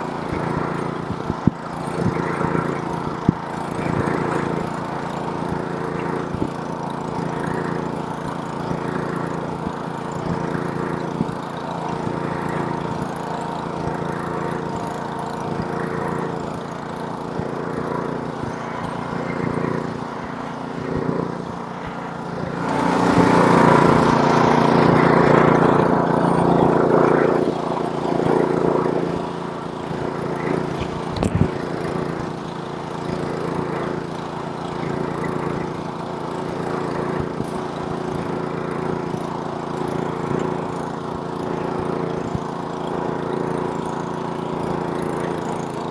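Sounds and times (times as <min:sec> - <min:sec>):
snowblower engine running: 0:00.0 - 0:45.9.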